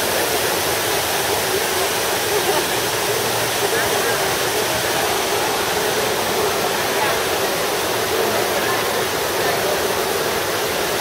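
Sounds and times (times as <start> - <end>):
crowd chatter: 0.0 - 11.0
fountain water rushing: 0.0 - 11.0.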